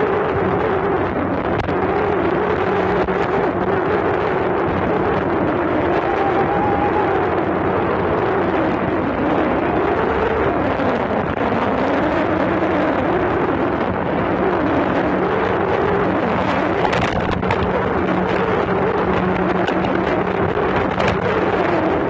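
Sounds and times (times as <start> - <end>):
speedboat engine: 0.0 - 22.0
wind buffeting microphone: 0.0 - 22.0.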